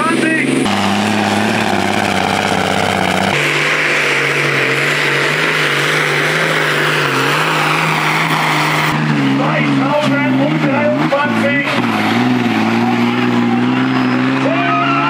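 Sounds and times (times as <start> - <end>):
tractor engine running loud: 0.0 - 15.0.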